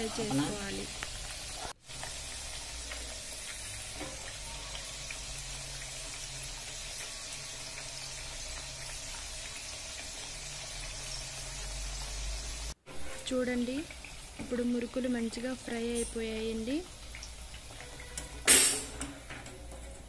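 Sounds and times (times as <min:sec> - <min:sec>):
food deep-frying in oil: 0:00.0 - 0:20.0.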